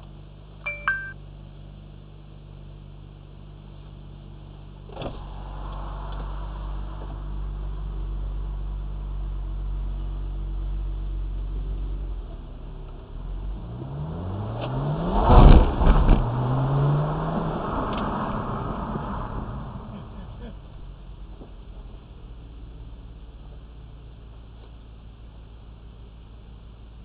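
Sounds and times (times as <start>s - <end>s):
car engine idling and accelerating: 0.0s - 27.0s.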